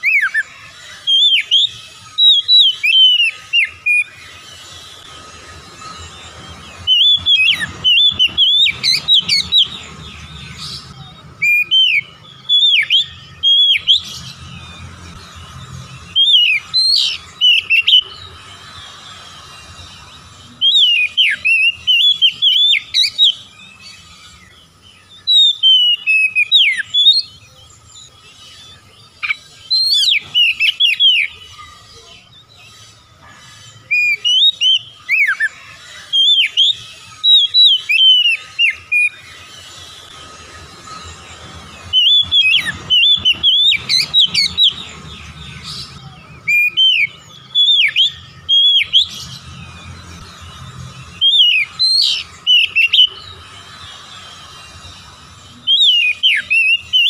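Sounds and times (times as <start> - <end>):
bird singing whistled phrases: 0.0 - 33.0, 33.7 - 57.0.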